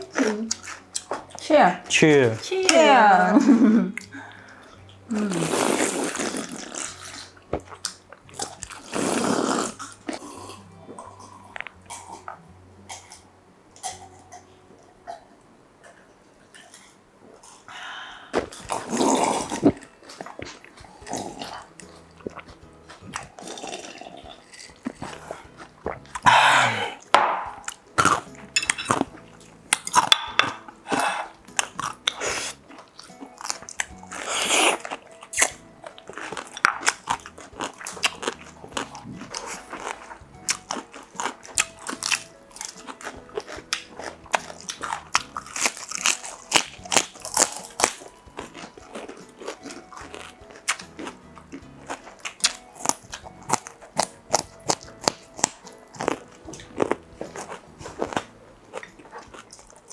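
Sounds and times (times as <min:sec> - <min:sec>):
crunchy food being chewed: 0:00.0 - 0:01.4, 0:04.8 - 0:17.7, 0:18.4 - 0:59.9.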